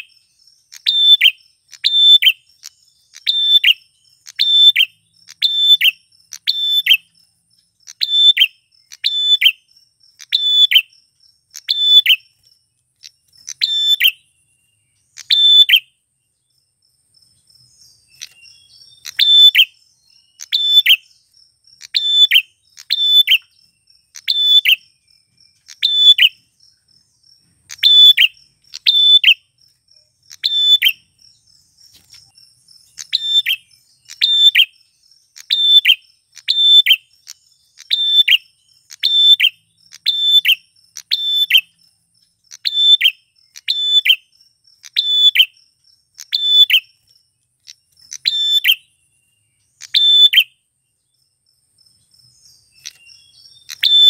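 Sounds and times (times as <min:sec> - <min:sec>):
faint high insect trill: 0:00.0 - 0:54.0.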